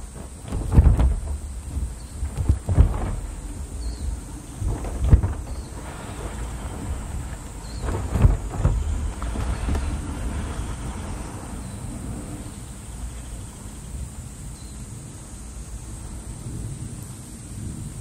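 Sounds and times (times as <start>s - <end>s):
faint hiss: 0.0s - 18.0s
rolling thunder: 0.0s - 18.0s.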